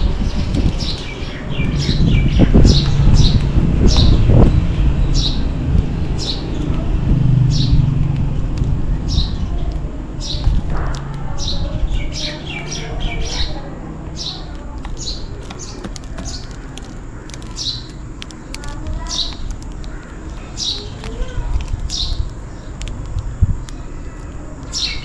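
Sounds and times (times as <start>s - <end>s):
low background rumble: 0.0s - 25.0s
sparrows chirping: 0.0s - 25.0s.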